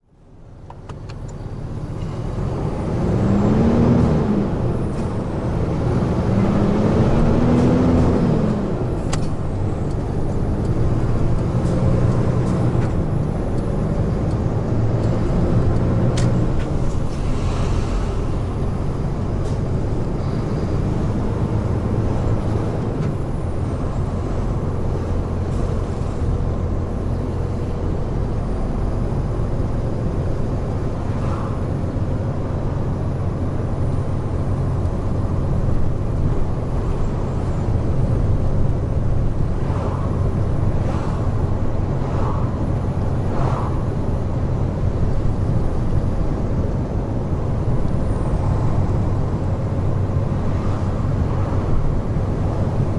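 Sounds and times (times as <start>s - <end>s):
truck engine and tyre noise: 0.0s - 52.9s.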